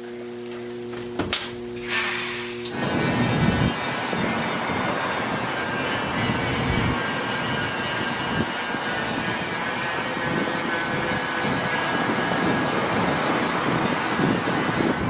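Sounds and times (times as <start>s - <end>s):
machine running noise: 0.0s - 15.0s.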